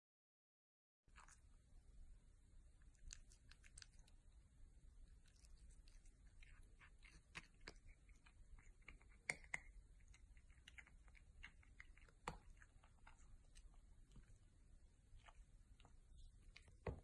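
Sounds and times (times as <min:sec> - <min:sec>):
cat licking and eating: 0:01.1 - 0:17.0.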